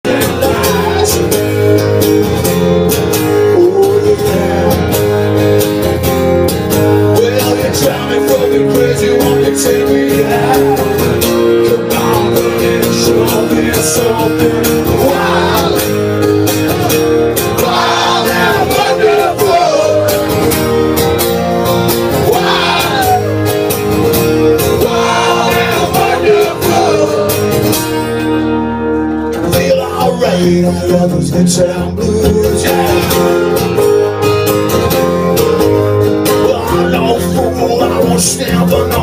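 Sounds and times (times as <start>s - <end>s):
live blues rock guitars strumming: 0.0s - 39.0s.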